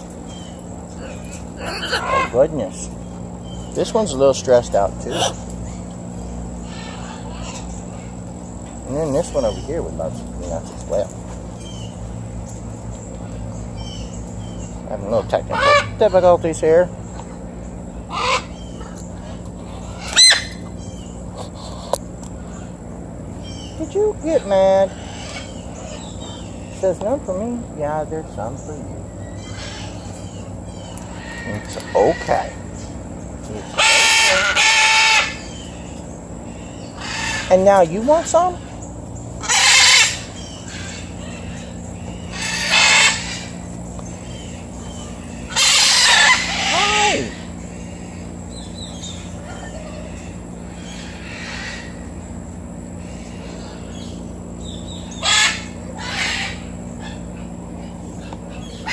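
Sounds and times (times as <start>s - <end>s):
bird squawking: 0.0s - 12.1s, 13.0s - 27.2s, 28.4s - 58.9s.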